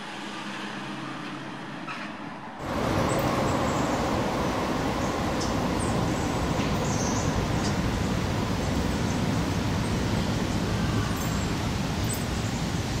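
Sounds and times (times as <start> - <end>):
traffic rumble: 2.6 - 13.0.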